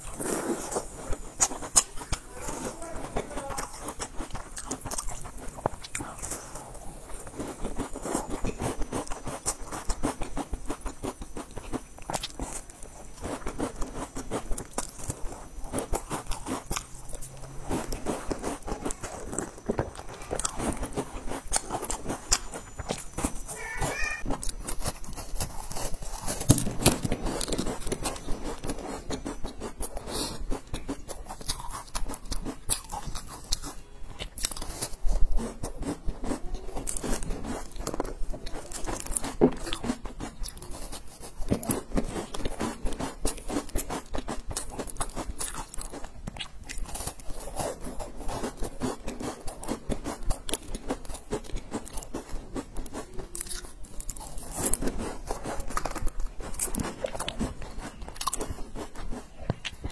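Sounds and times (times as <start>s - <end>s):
crunching crisp biscuits: 0.0s - 59.9s.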